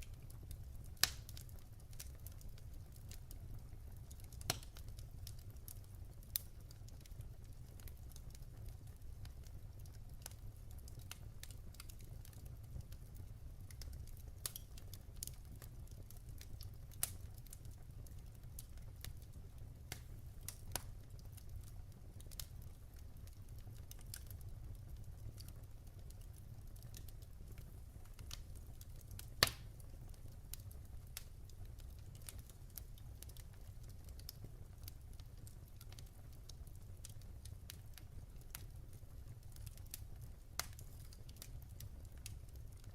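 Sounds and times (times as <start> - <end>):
fire rumbling: 0.0 - 42.9
logs crackling and popping: 0.0 - 42.9.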